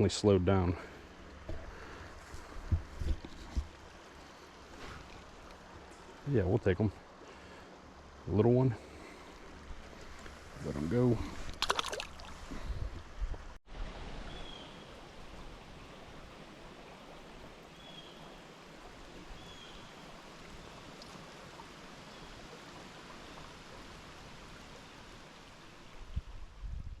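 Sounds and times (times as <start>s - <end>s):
river water flowing: 0.0s - 26.5s.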